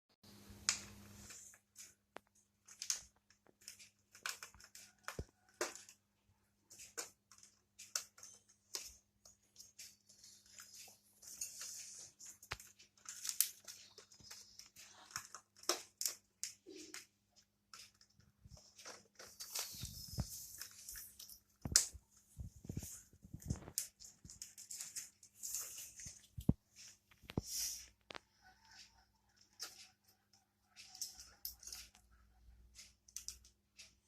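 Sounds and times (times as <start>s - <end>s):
small animals pecking and gnawing: 0.7s - 34.0s.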